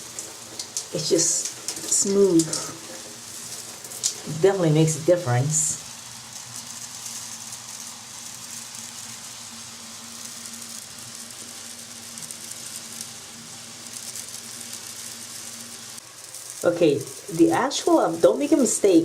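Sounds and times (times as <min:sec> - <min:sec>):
shower head spraying water: 0:00.0 - 0:19.0.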